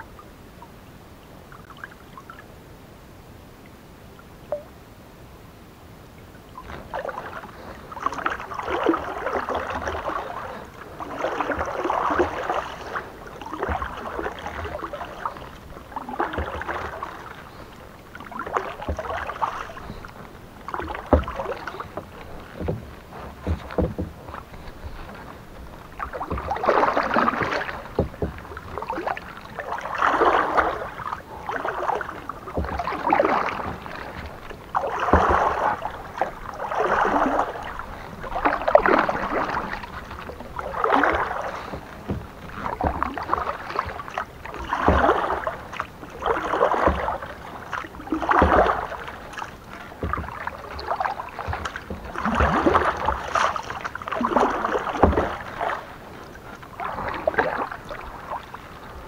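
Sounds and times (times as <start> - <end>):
paddle strokes splashing in water: 6.4 - 59.0.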